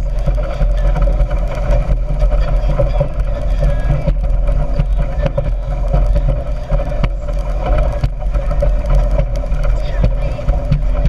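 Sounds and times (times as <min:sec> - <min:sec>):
speedboat engine drone: 0:00.0 - 0:11.0.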